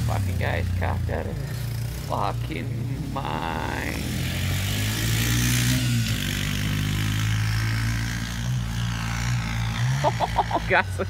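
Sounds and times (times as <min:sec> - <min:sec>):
atv engine under throttle: 0:00.0 - 0:11.0.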